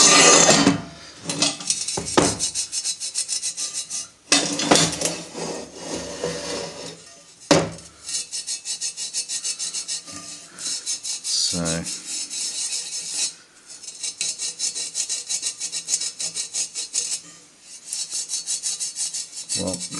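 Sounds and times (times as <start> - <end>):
scouring pad scrubbing metal: 1.2 - 19.9.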